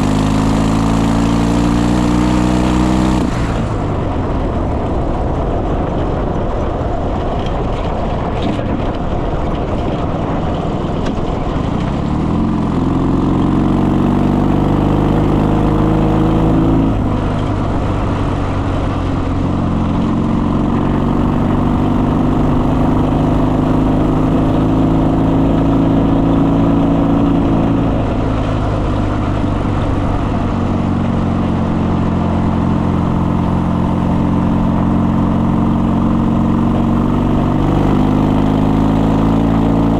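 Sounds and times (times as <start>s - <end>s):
motorcycle engine accelerating: 0.0s - 39.9s
steady rushing noise: 0.0s - 39.9s.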